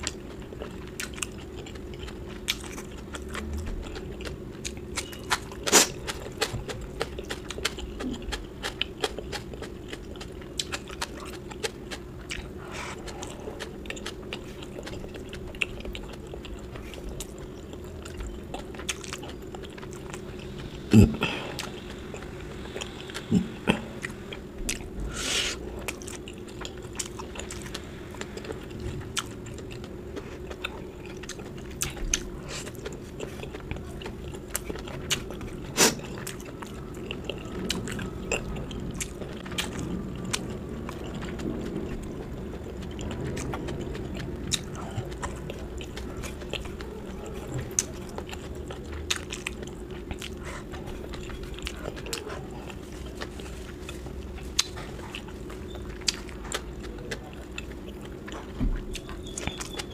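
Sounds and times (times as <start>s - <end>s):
faint steady hum: 0.0s - 59.9s
person chewing food: 0.0s - 59.9s.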